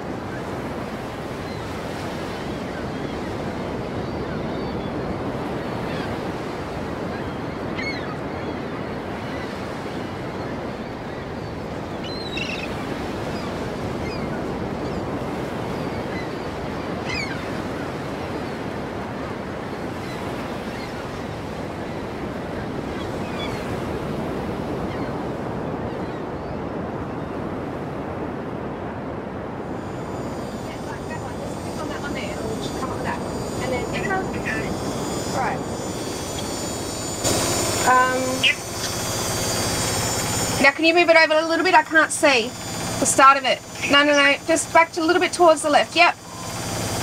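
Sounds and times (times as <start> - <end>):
ocean surf washing: 0.0 - 47.0.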